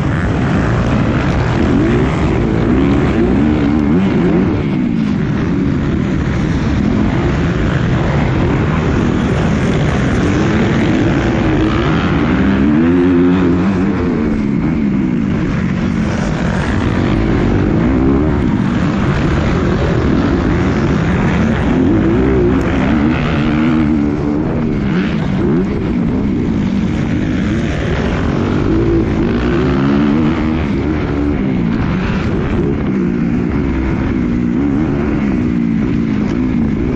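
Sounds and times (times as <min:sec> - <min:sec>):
motorbike engine revving: 0:00.0 - 0:36.9.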